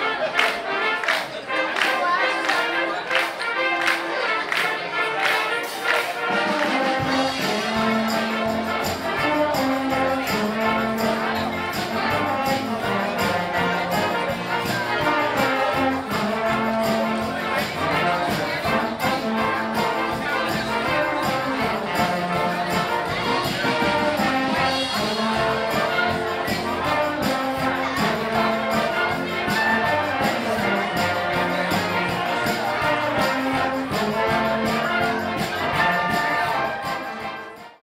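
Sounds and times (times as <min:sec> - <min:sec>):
brass band music: 0:00.0 - 0:37.8
trumpets and trombones: 0:00.0 - 0:37.8
percussion steady beat: 0:00.3 - 0:37.8.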